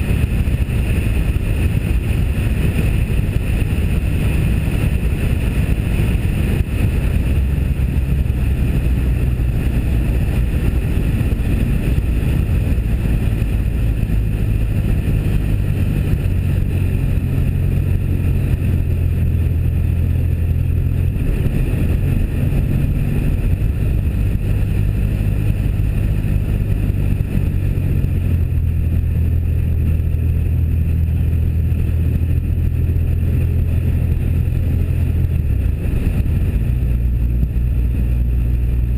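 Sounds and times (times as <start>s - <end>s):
car engine drone: 0.0s - 38.9s
wind buffeting microphone: 0.0s - 38.9s.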